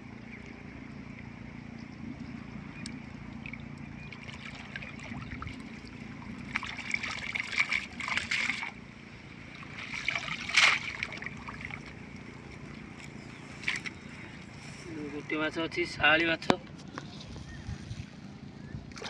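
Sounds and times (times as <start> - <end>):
river water trickling and splashing: 0.0 - 19.0.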